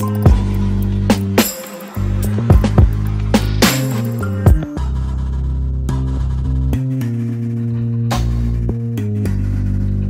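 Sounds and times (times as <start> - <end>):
low bass line: 0.0 - 10.0.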